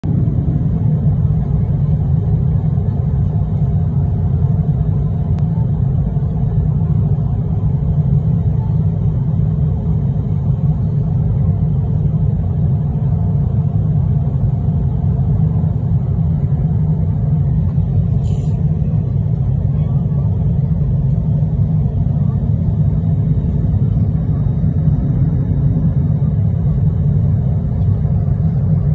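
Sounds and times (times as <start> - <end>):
jet airliner cabin rumble: 0.0 - 28.9.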